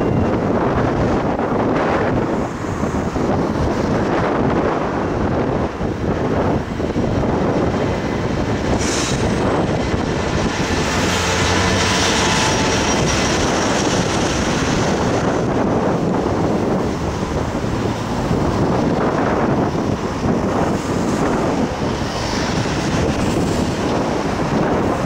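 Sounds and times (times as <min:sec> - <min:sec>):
diesel locomotive passing: 0:00.0 - 0:25.0
train wheels on rails: 0:00.0 - 0:25.0
wind noise on microphone: 0:00.0 - 0:25.0.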